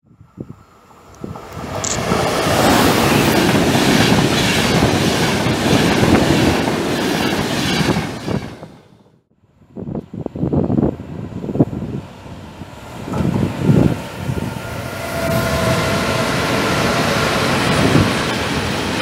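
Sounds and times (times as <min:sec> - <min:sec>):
train wheel and rail noise: 0:00.1 - 0:19.0.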